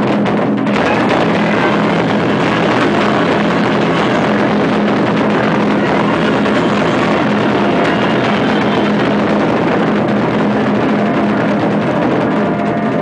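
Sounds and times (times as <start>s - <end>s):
large drums rolling: 0.0s - 13.0s.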